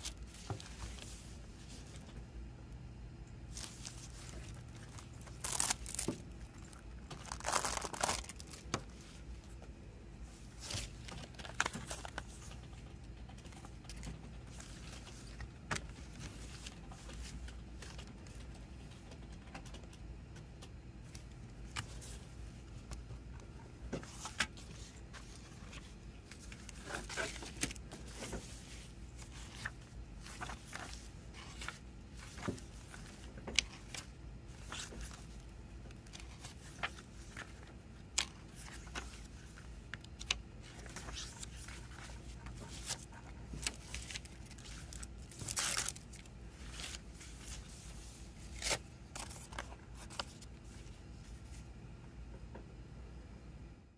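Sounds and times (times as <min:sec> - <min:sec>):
paper pages rustling: 0:00.0 - 0:02.2, 0:03.5 - 0:09.5, 0:10.5 - 0:19.7, 0:21.1 - 0:51.6.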